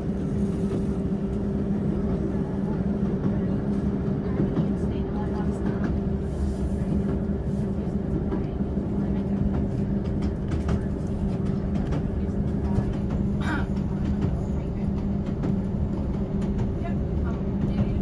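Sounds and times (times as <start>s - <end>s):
train engine hum: 0.0s - 18.0s.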